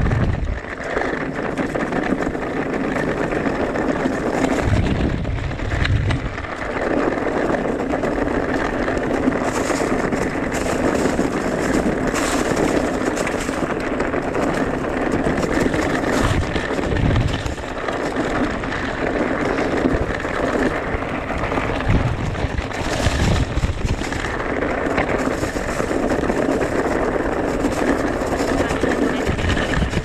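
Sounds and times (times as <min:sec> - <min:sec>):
low rumbles: 0:00.0 - 0:00.8, 0:01.6 - 0:30.0
bike knocking and rattling: 0:00.0 - 0:30.0
wind rushing on microphone: 0:00.0 - 0:30.0.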